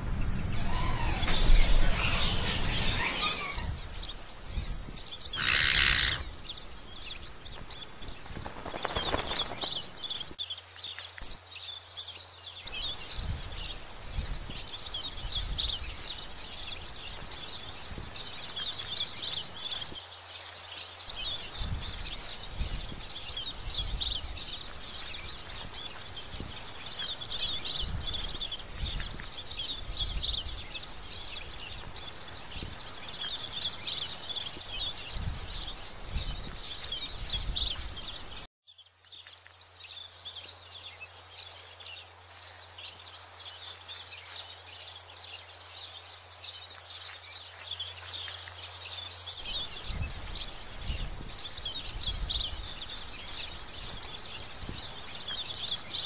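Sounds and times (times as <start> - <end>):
wind rumble on microphone: 0.0 - 10.4, 12.7 - 20.0, 21.1 - 38.5, 45.6 - 56.0
birds chirping: 0.0 - 56.0.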